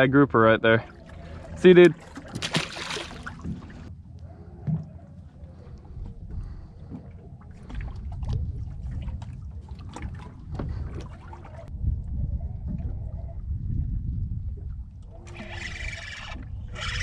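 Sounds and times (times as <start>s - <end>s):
water against hull: 0.0s - 17.0s
wind on microphone: 3.3s - 17.0s.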